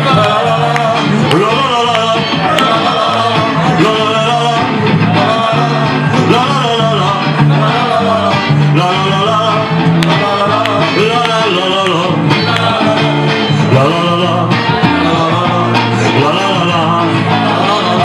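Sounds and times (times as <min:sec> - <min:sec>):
electric guitar: 0:00.0 - 0:18.0
men singing together: 0:00.0 - 0:18.0.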